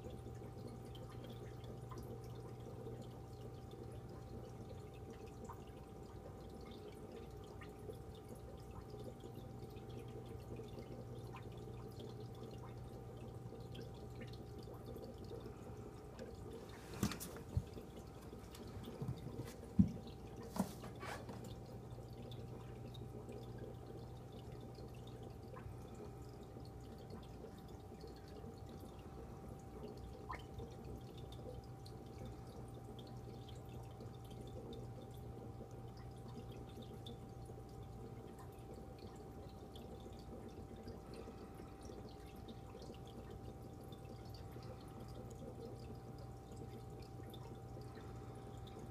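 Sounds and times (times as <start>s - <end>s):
aquarium water trickling: 0.0s - 48.9s
low steady hum: 0.0s - 48.9s.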